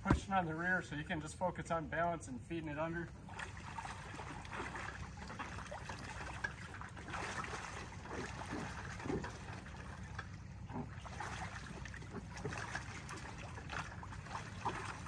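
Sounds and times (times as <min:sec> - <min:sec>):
water sloshing and splashing: 0:00.0 - 0:00.8, 0:03.0 - 0:15.0.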